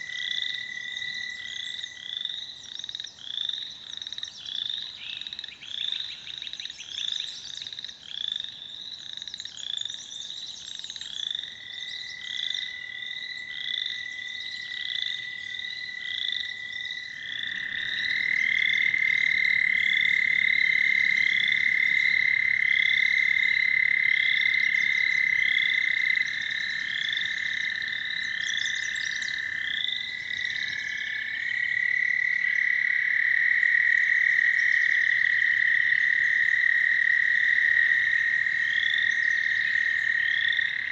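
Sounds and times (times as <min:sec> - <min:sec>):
toads trilling: 0:00.0 - 0:40.9.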